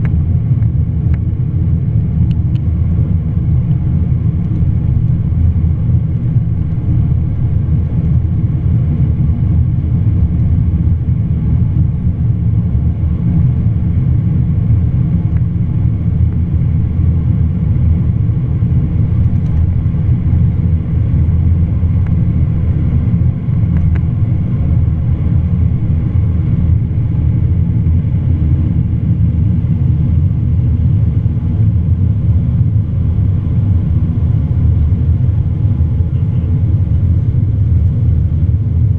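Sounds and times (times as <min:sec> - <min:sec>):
jet engines low rumble: 0:00.0 - 0:38.9.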